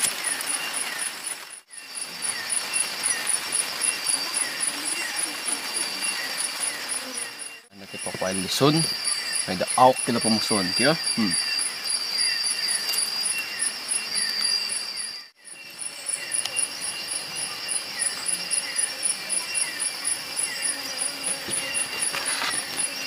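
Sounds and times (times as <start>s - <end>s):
high insect chirps: 0.0s - 23.0s
steady high insect trill: 0.0s - 23.0s.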